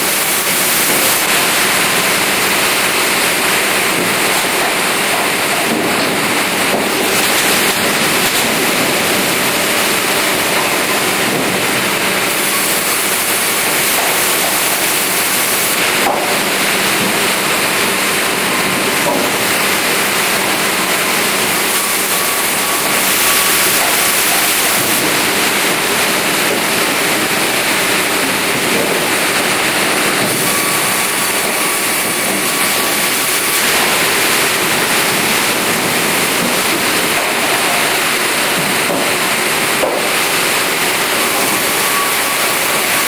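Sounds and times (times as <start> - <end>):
band saw cutting timber: 0.0 - 43.0.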